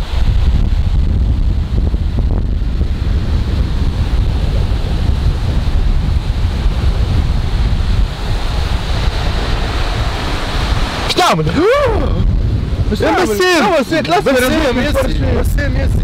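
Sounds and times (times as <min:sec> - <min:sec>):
sea surf: 0:00.0 - 0:16.0
wind blowing across microphone: 0:00.0 - 0:16.0.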